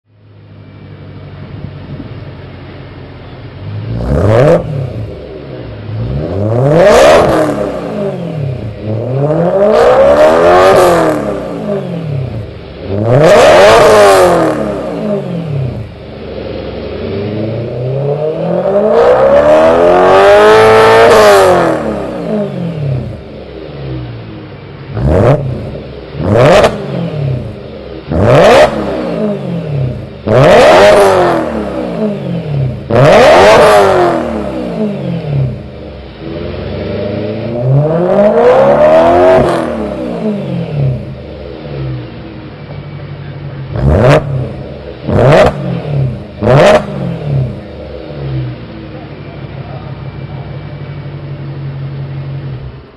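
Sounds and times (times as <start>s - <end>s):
car engine revving: 0.3s - 52.9s.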